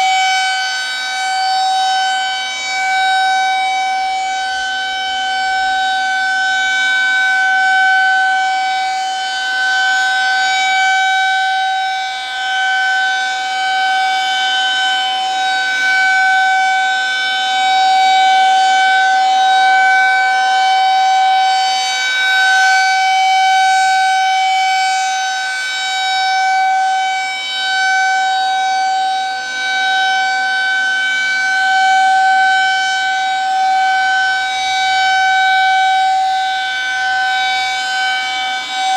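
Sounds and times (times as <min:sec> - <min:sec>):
rotating siren steady tone: 0:00.0 - 0:38.9.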